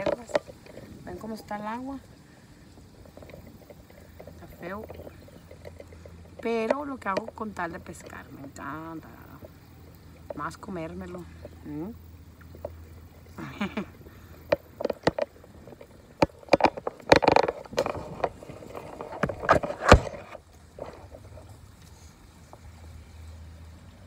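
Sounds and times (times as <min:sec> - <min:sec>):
fishing rod and reel clatter: 0:00.0 - 0:24.0.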